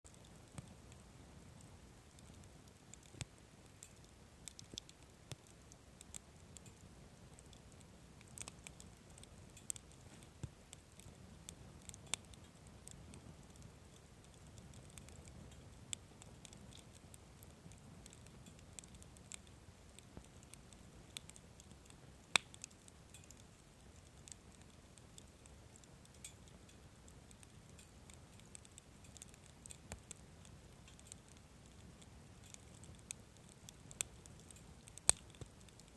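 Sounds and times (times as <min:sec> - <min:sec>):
wood fire crackling and popping: 0:00.1 - 0:35.9.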